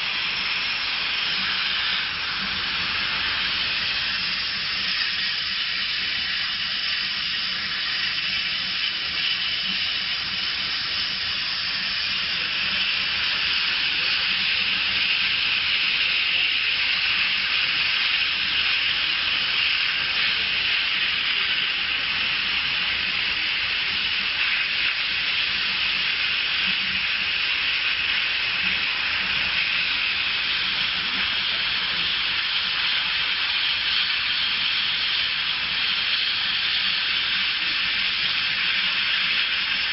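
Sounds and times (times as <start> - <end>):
laser cutter airy hiss: 0.0 - 39.9.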